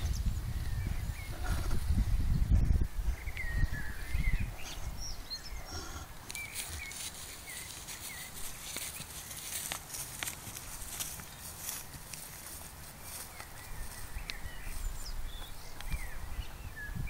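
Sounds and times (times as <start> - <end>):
wind buffeting microphone: 0.0 - 8.8, 10.6 - 17.0
small birds chirping: 0.0 - 17.0.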